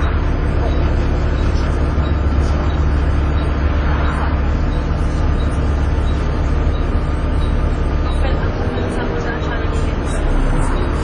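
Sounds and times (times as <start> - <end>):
bus diesel engine droning: 0.0 - 11.0
thin steady whine: 0.0 - 11.0.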